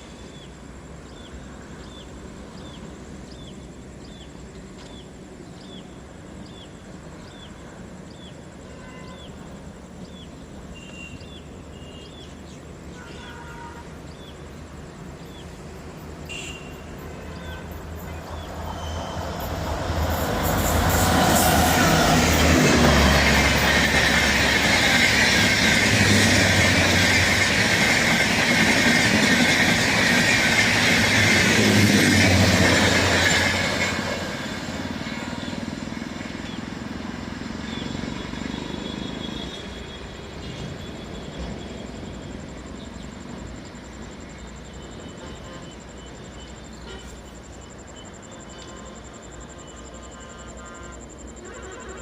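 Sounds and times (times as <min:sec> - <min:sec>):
train passing at speed: 0:00.0 - 0:52.0.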